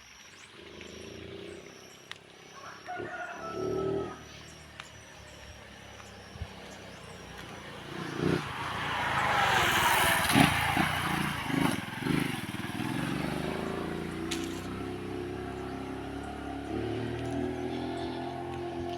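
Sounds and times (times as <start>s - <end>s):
motor vehicle passing: 3.2s - 18.9s.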